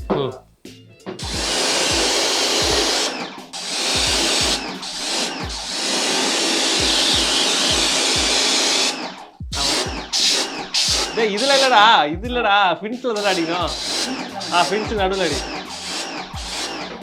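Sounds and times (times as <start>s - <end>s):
low music beat thumping: 0.0s - 17.0s
water jet hissing: 1.2s - 12.0s, 13.2s - 17.0s.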